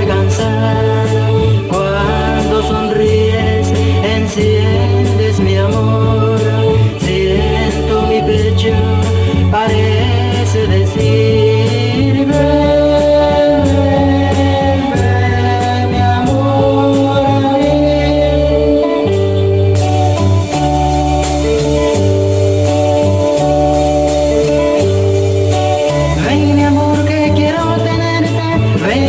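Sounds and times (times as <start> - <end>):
latin band instrumental: 0.0 - 29.0.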